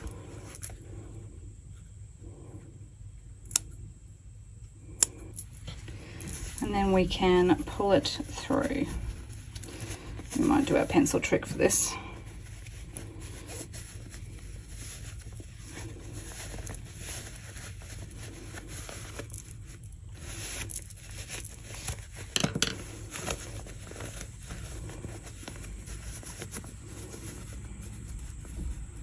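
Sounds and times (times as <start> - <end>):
fabric rustling and scraping: 0.0 - 2.5, 5.4 - 29.0.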